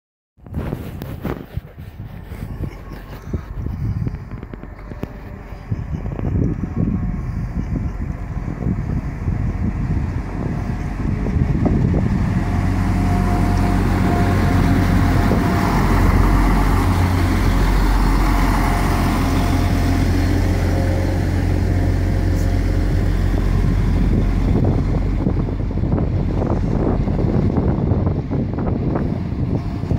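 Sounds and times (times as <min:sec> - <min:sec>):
diesel train engine hum: 0:00.4 - 0:29.9
wheels on rails: 0:00.5 - 0:29.9.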